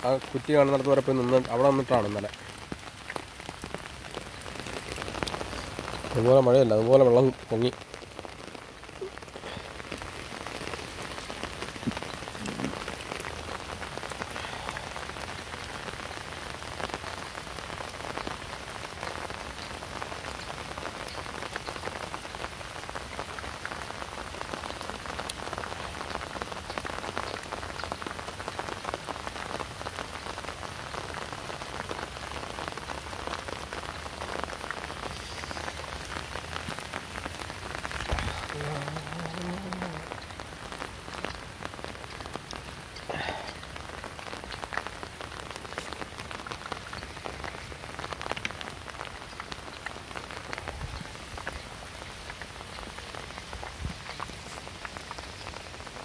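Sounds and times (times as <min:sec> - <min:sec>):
heavy rain on water and ground: 0:00.0 - 0:56.0.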